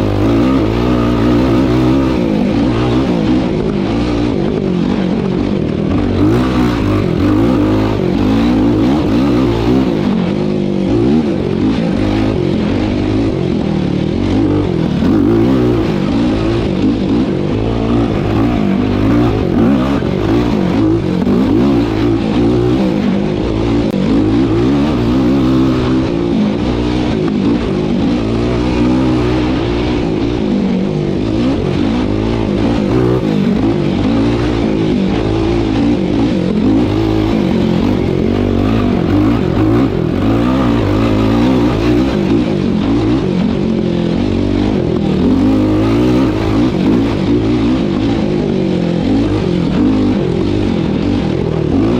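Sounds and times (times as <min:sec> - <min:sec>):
quad engine running hard: 0:00.0 - 0:51.9.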